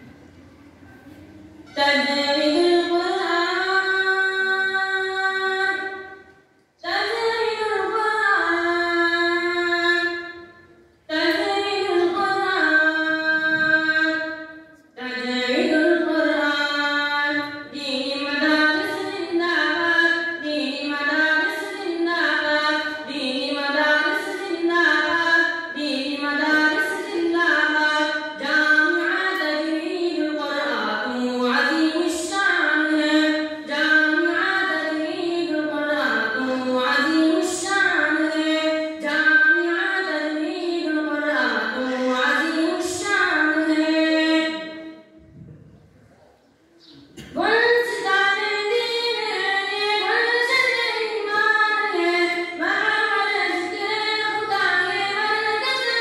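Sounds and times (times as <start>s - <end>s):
boy singing unaccompanied: 6.8s - 44.9s, 47.2s - 56.0s.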